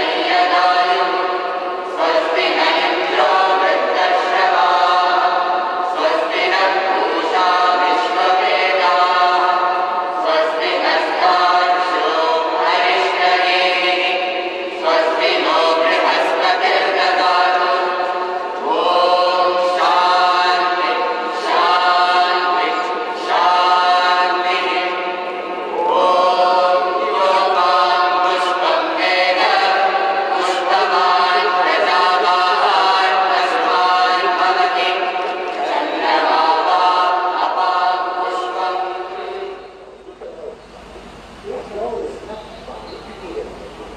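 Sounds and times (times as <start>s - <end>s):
group of voices chanting: 0.0s - 39.9s.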